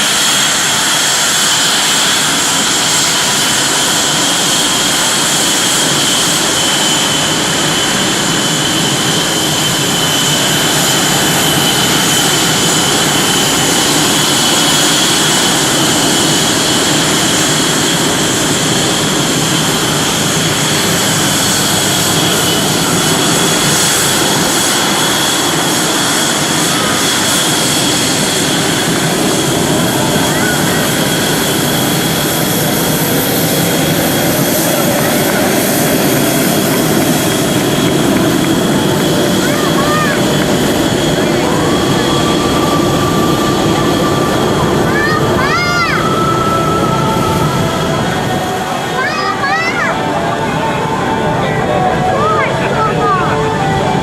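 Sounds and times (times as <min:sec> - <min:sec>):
jet engines with turbine whine: 0:00.0 - 0:54.0.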